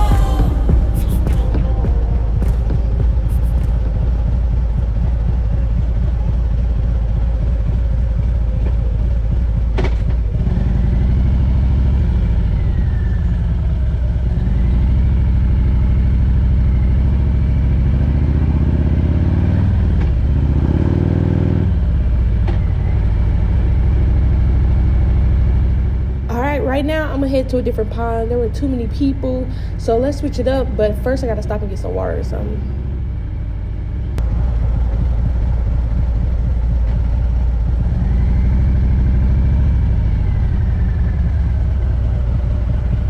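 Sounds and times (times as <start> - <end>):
motorcycle engine: 0.0 - 43.0.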